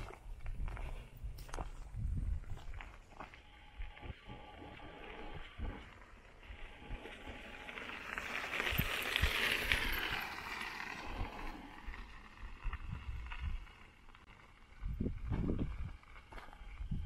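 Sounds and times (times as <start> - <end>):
footsteps on dirt trail: 0.0 - 17.0.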